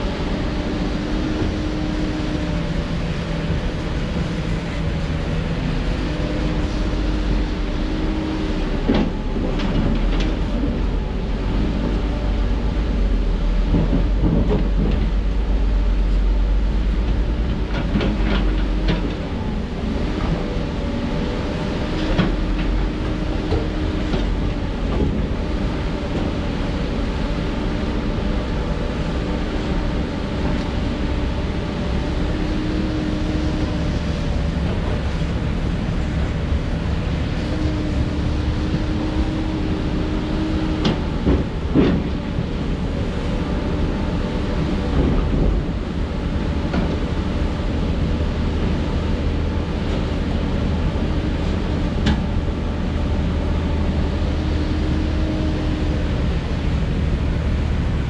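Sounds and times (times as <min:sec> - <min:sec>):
diesel excavator running: 0:00.0 - 0:58.0.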